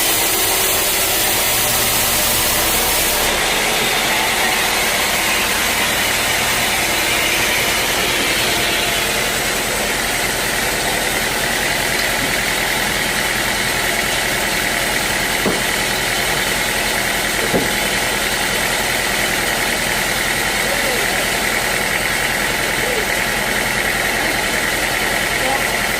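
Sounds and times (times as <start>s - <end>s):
sawmill machinery running: 0.0s - 25.9s.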